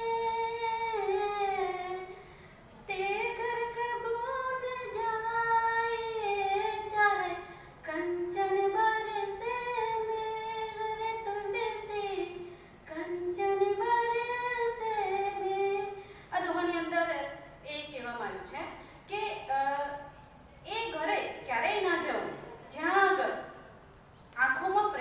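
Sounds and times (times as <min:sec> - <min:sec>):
woman singing unaccompanied: 0:00.0 - 0:02.2, 0:02.8 - 0:23.5.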